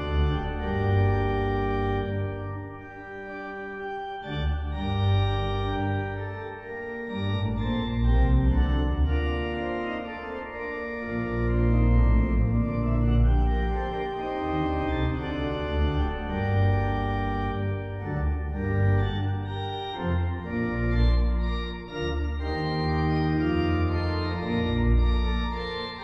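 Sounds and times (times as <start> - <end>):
church organ playing chords: 0.0 - 26.0.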